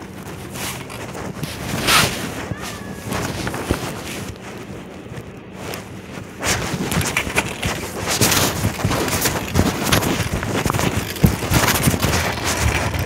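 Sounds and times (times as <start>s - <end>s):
clothing rubbing on phone microphone: 0.0s - 13.0s.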